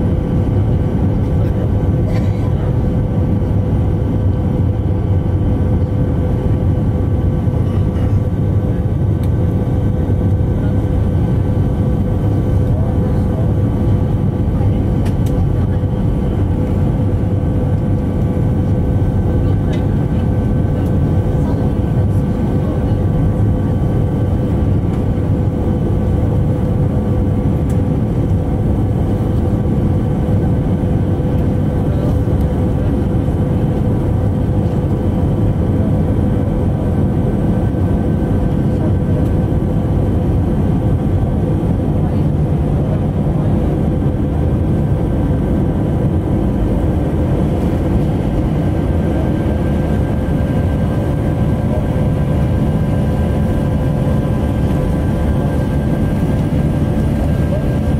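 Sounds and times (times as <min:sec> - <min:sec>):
jet cabin engine rumble: 0:00.0 - 0:57.9.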